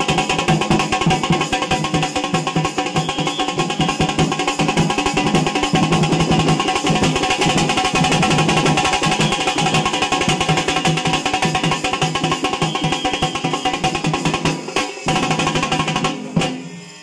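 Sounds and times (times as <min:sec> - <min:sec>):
fast folk drumming: 0:00.0 - 0:16.7.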